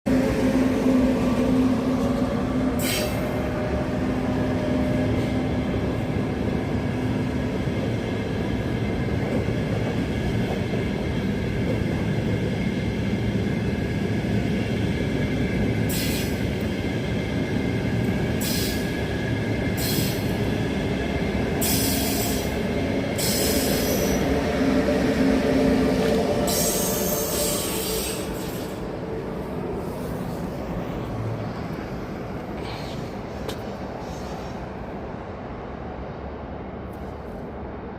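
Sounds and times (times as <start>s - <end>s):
electric train rumbling: 0.1s - 37.9s.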